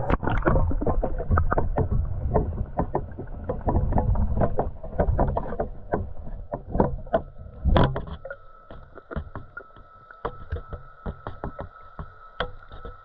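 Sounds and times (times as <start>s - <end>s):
muffled underwater sloshing: 0.0s - 13.0s
underwater knocks and clunks: 0.0s - 13.0s.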